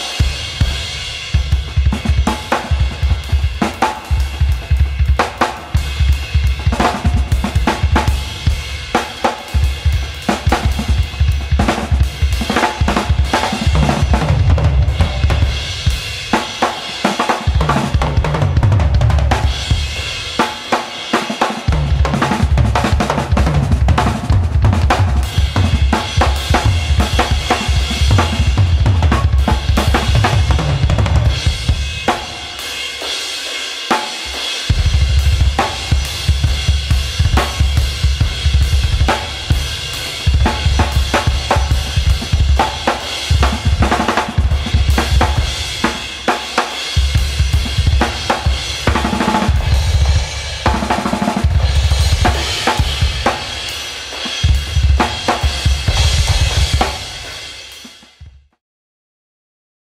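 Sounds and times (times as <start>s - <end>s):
drum kit groove: 0.0s - 58.6s.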